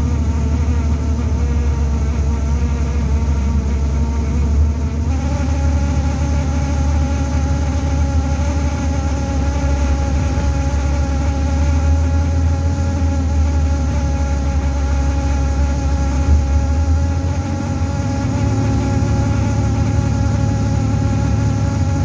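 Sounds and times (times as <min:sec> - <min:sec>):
low buzzing hum inside bus: 0:00.0 - 0:22.0.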